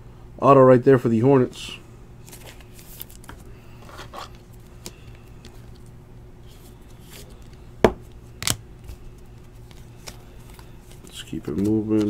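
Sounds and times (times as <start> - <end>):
low steady hum: 0.0 - 12.0
cards rustling: 2.2 - 12.0.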